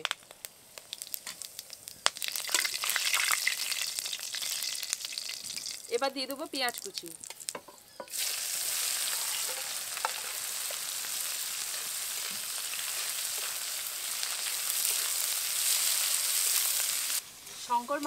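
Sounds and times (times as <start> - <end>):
onion sizzling in hot oil: 0.0 - 18.0.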